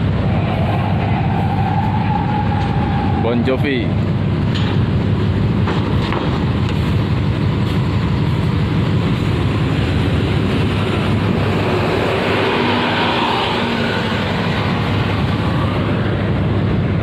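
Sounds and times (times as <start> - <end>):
diesel bus engines running: 0.0 - 17.0.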